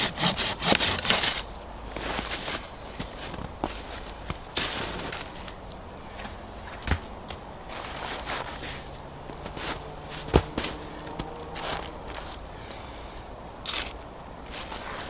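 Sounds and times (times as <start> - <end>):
crunching and scraping in snow: 0.2 - 12.9, 13.6 - 15.0.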